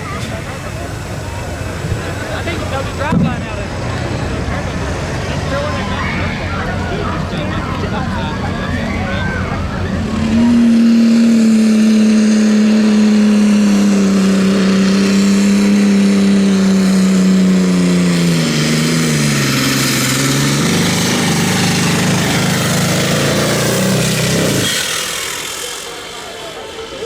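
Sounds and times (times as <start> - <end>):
engine running at high revs: 0.0 - 27.0.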